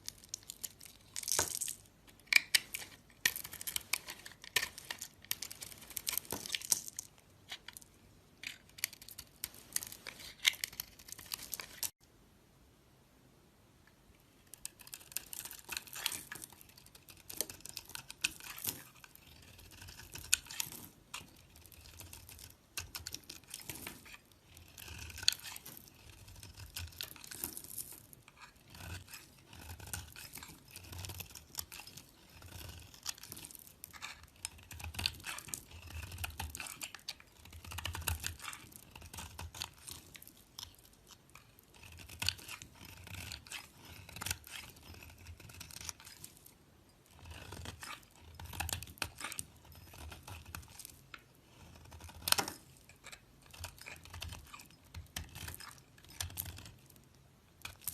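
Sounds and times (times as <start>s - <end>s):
soap crunching and crackling: 0.0s - 12.0s, 14.6s - 57.9s.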